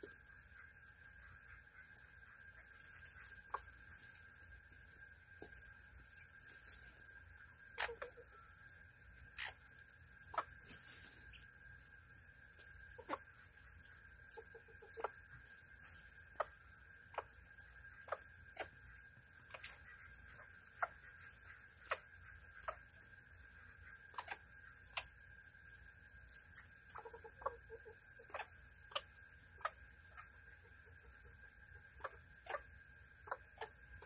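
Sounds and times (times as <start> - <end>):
chickens clucking softly: 0.0 - 34.0.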